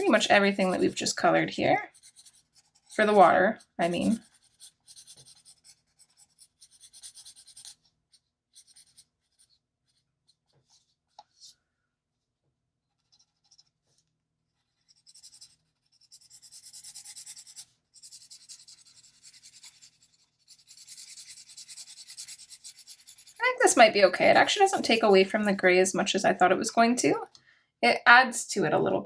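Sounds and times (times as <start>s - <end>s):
marker scratching on paper: 0.0s - 11.5s, 12.9s - 25.1s.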